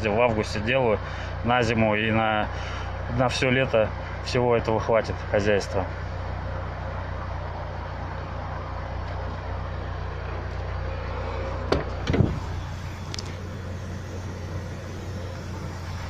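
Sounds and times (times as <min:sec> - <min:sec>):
air conditioning hum: 0:00.0 - 0:16.0
car engine idling: 0:00.0 - 0:16.0.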